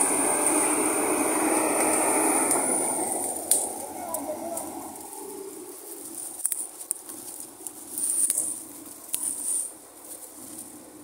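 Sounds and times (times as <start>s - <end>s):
brush and branches crackling: 0.0s - 11.0s
bulldozer low hum: 0.0s - 11.0s
branches snapping: 1.8s - 10.7s.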